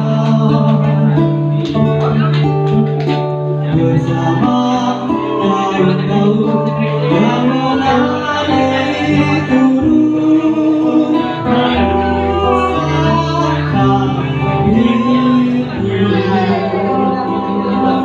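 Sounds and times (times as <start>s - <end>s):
person singing: 0.0s - 2.3s, 3.6s - 18.0s
acoustic guitar strumming: 0.0s - 18.0s.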